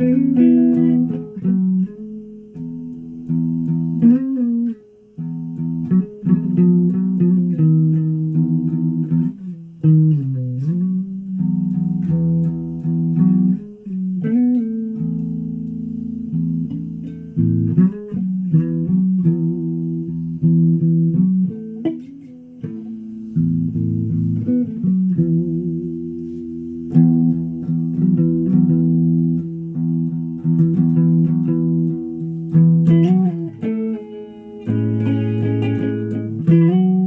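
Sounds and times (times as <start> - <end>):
sharp plucked strings: 0.0 - 37.0.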